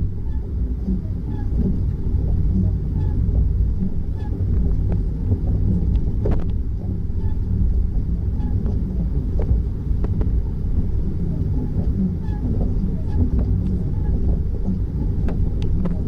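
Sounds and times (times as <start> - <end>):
faint ticks and rattles: 0.0 - 16.0
road and engine rumble in car: 0.0 - 16.0.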